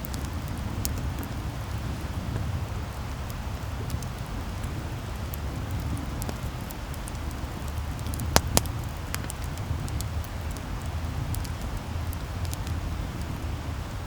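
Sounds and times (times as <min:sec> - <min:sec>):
sharp fire pops: 0:00.0 - 0:13.3
campfire burning and crackling: 0:00.0 - 0:14.0.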